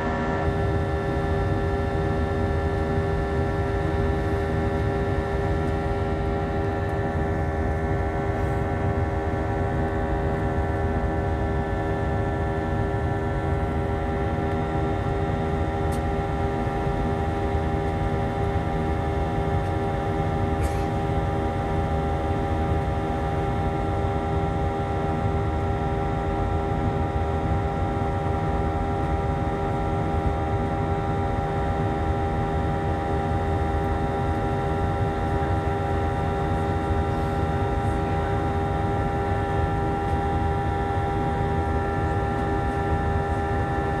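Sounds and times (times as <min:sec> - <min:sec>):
airplane engine drone: 0:00.0 - 0:44.0
steady whining tones: 0:00.0 - 0:44.0.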